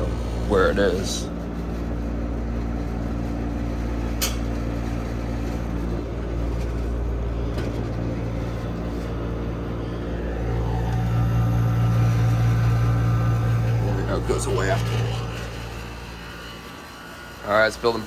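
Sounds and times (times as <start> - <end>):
air conditioner humming: 0.0 - 18.0
fan blade rattling: 0.0 - 18.0.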